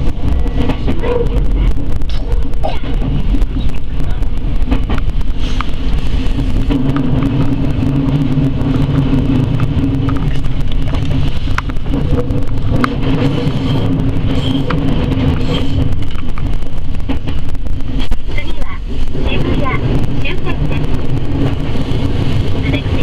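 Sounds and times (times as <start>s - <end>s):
train motor hum: 0.0s - 23.0s
wheels clicking on track: 0.0s - 23.0s.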